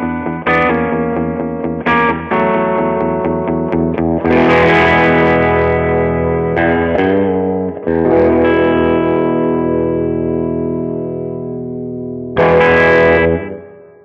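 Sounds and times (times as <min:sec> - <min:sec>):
overdriven electric guitar: 0:00.0 - 0:14.0.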